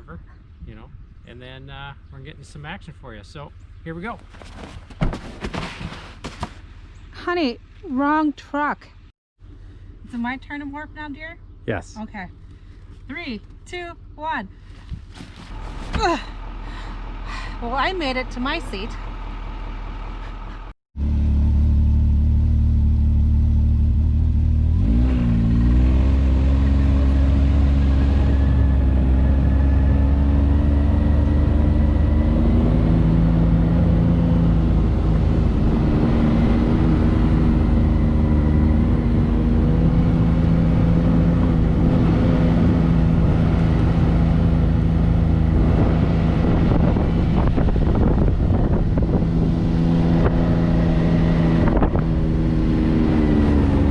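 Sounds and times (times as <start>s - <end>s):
vehicle engine driving: 0.0s - 53.9s.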